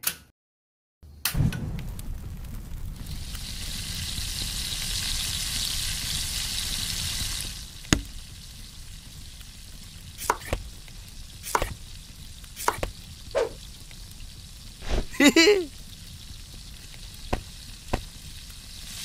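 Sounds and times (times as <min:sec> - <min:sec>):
food sizzling in hot oil: 0:02.0 - 0:19.0.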